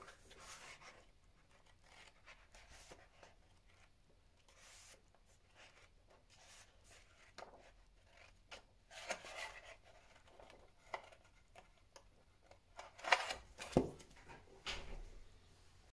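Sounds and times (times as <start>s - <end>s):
book pages rustling: 0.0s - 14.1s.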